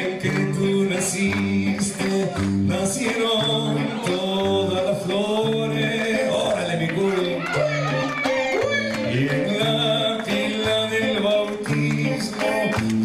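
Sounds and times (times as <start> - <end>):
song with held bass notes: 0.0 - 13.0.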